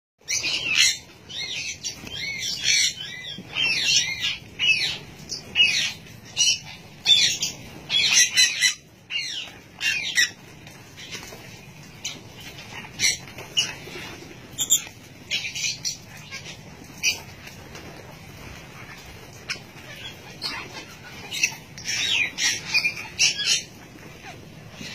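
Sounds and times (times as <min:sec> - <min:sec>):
parrots squawking and chirping: 0:00.2 - 0:24.9.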